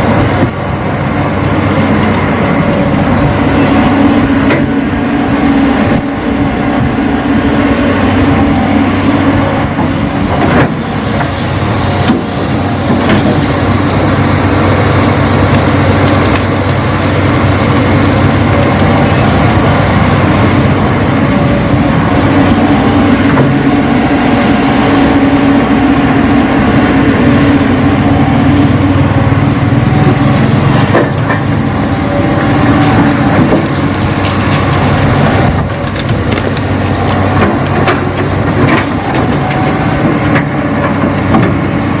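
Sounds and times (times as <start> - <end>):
loud engine-like drone: 0.0 - 42.0.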